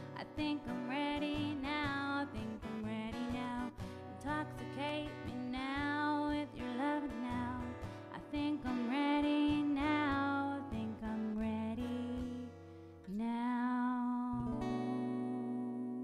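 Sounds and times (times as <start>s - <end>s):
acoustic guitar strumming: 0.0s - 13.6s
woman singing: 0.0s - 16.0s.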